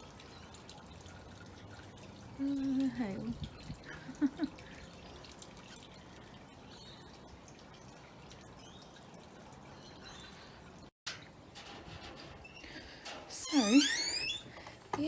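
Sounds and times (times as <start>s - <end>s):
water dripping and trickling: 0.0s - 15.0s.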